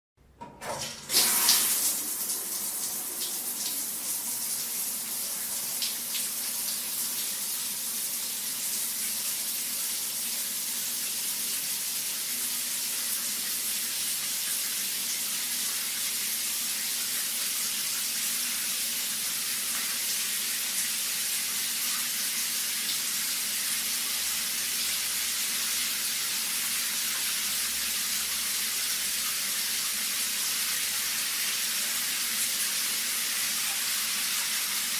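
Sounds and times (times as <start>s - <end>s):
shower running: 0.6s - 34.9s.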